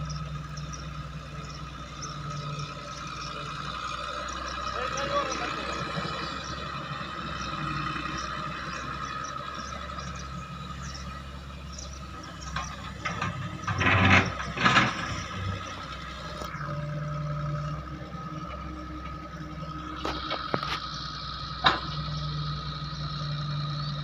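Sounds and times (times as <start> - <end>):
excavator engine drone: 0.0 - 24.0.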